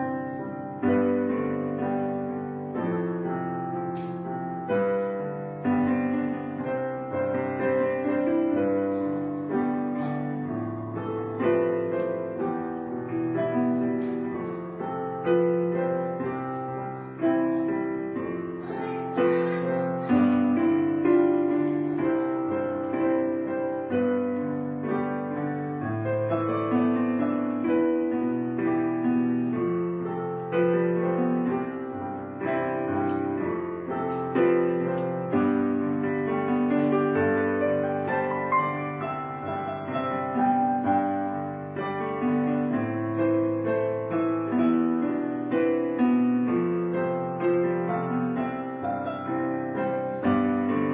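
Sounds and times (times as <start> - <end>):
gentle piano music: 0.0 - 50.9.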